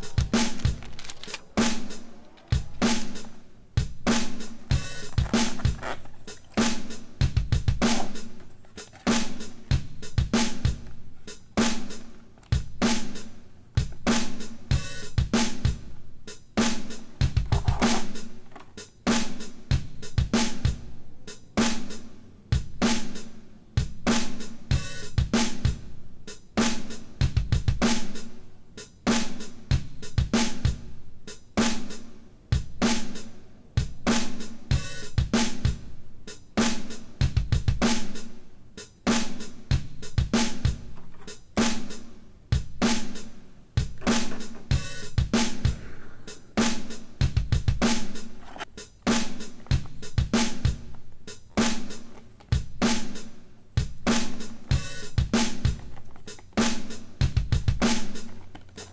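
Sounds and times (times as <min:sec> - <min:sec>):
background music with drum beat: 0:00.0 - 0:58.9.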